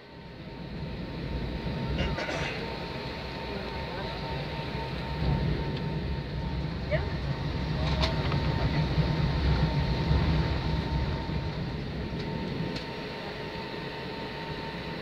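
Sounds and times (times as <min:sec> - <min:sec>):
aircraft engines at taxi power: 0:00.0 - 0:15.0.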